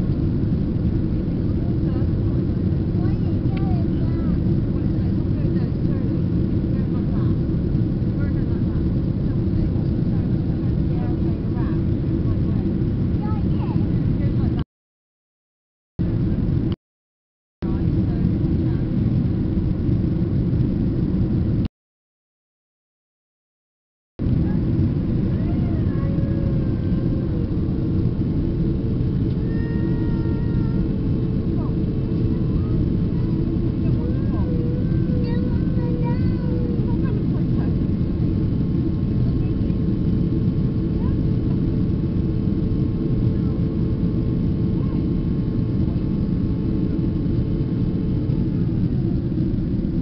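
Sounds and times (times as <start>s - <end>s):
jet cabin engine rumble: 0.0s - 14.6s, 16.0s - 16.8s, 17.6s - 21.7s, 24.2s - 50.0s.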